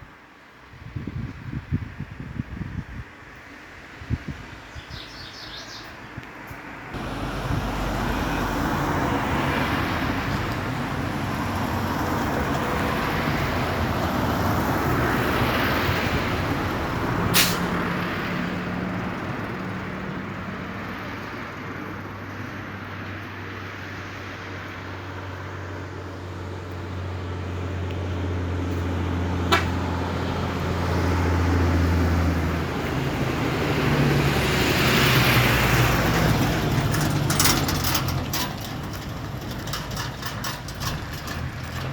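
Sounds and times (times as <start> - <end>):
road noise: 0.0 - 41.9
vehicle engine hum: 3.6 - 41.9.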